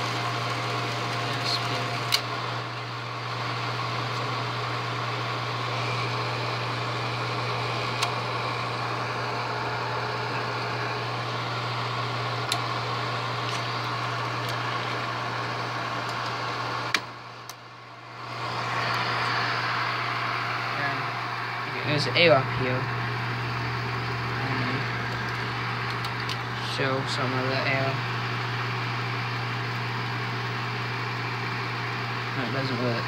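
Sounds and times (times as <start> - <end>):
film projector humming: 0.0 - 33.0.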